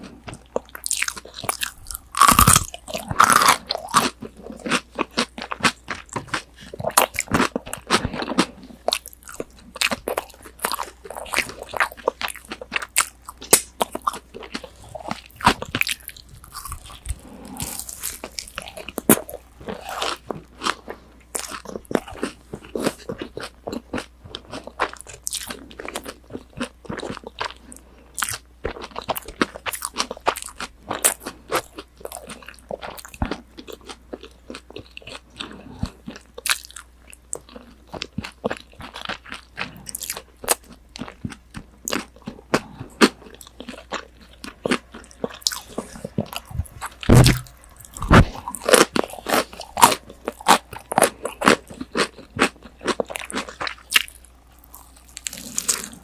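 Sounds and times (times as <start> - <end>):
crunchy food chewing: 0.0 - 56.0.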